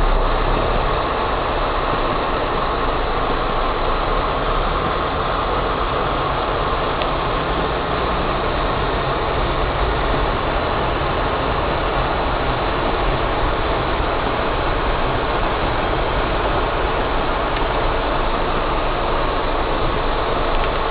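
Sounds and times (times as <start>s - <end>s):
car engine rumble from inside: 0.0s - 20.9s
tyre hiss on wet road: 0.0s - 20.9s.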